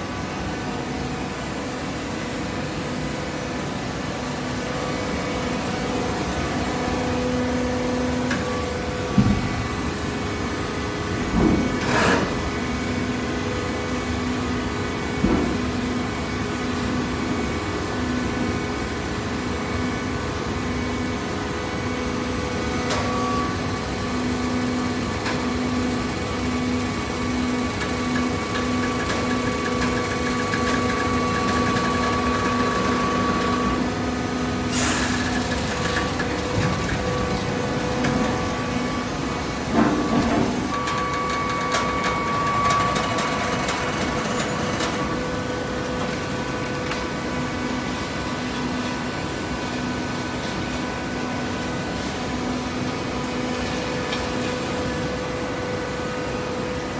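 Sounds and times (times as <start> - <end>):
baler machine humming and whining: 0.0 - 56.9.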